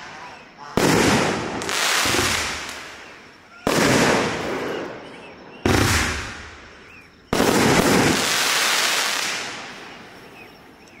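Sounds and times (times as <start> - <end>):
firework bangs with crackling tail: 0.8 - 9.9.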